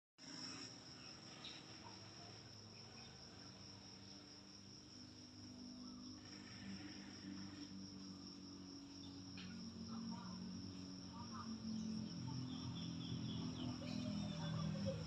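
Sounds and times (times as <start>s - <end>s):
crickets trilling: 0.2s - 15.0s.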